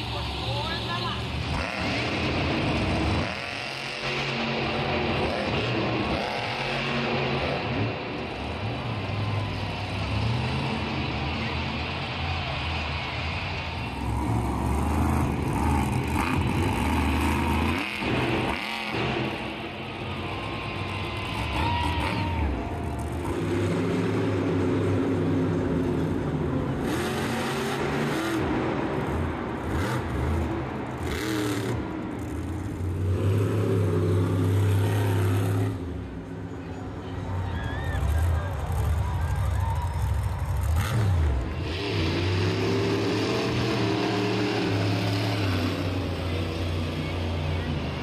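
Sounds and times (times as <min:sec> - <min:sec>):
truck engine revving: 0:00.0 - 0:37.3, 0:37.9 - 0:48.0.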